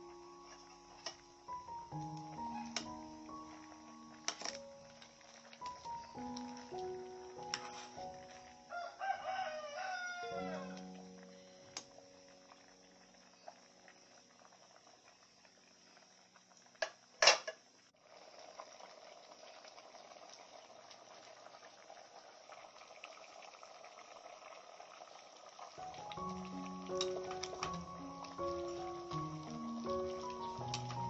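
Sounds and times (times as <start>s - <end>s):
curry bubbling in pot: 0.0s - 31.0s.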